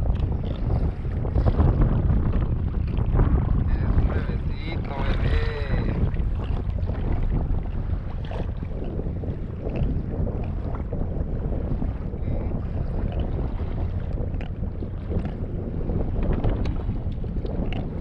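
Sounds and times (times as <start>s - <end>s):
water lapping against kayak: 0.0s - 18.0s
wind rumbling on microphone: 0.0s - 18.0s.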